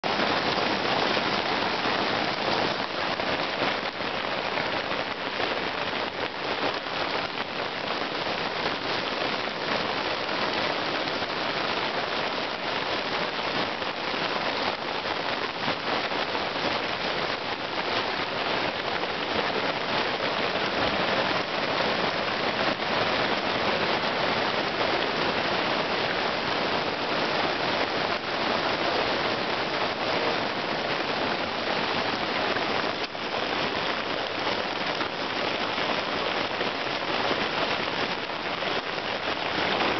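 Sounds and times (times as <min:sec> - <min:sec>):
hailstones pattering on grass: 0:00.0 - 0:39.9.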